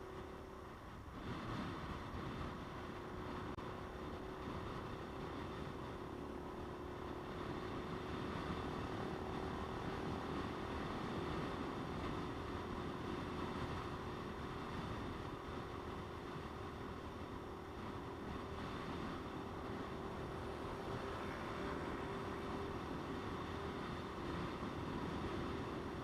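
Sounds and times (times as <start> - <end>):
motorcycle engine drone: 0.0 - 26.0
wind and road noise: 0.0 - 26.0.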